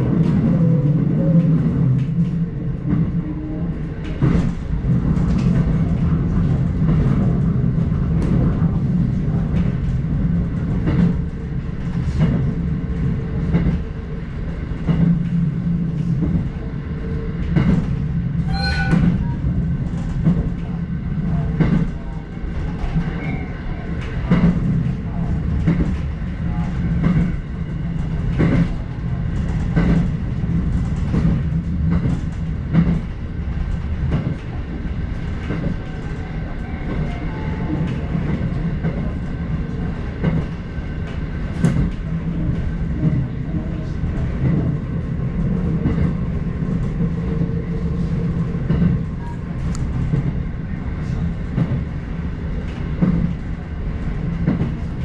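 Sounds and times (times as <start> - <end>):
train rumbling inside car: 0.0 - 55.0.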